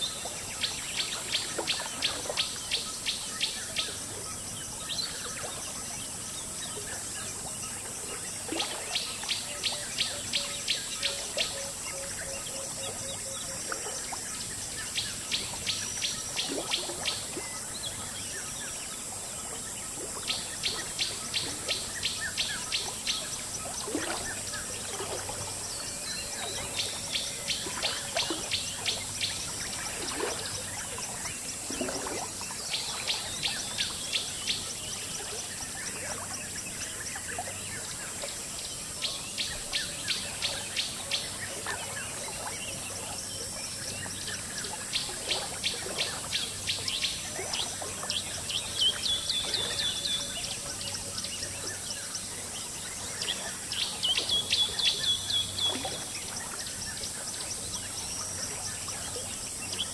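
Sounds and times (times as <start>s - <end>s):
flowing water: 0.0s - 59.9s
insect hiss: 0.0s - 59.9s.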